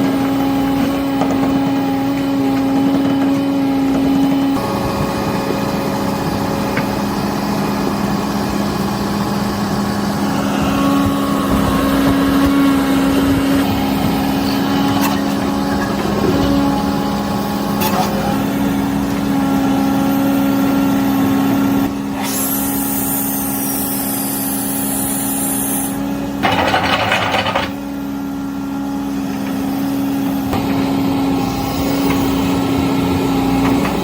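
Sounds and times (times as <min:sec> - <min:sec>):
excavator engine droning: 0:00.0 - 0:34.0.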